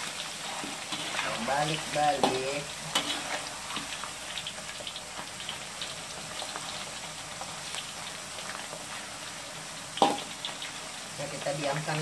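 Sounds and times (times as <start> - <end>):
potato slices sizzling in oil: 0.0 - 12.0
small crackles and pops: 0.0 - 12.0.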